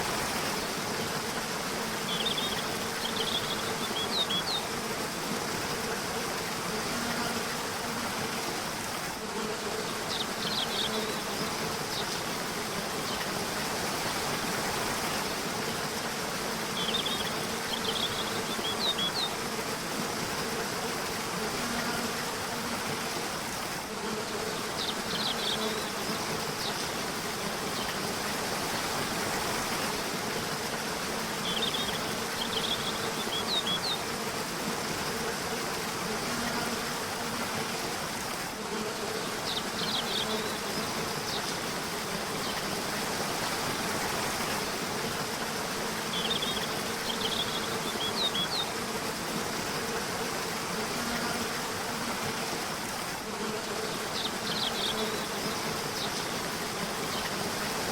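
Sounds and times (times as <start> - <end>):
rushing water: 0.0 - 57.9.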